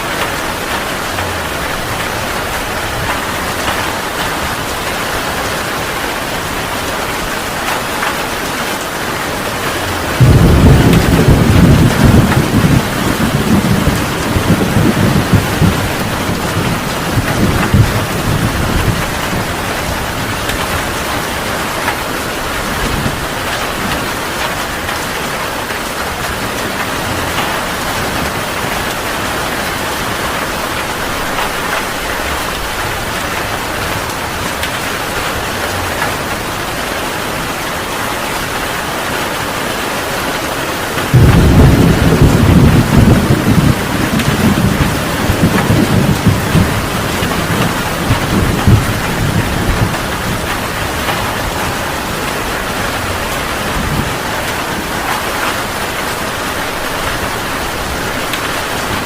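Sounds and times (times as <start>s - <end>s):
thunder rumbling: 0.0s - 38.0s, 40.9s - 59.0s
heavy rain falling: 0.0s - 59.0s.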